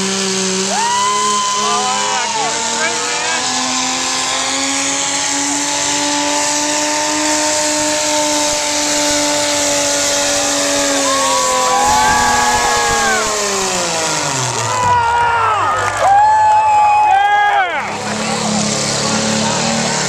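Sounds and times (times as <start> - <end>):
tractor engine running flat out: 0.0 - 17.1.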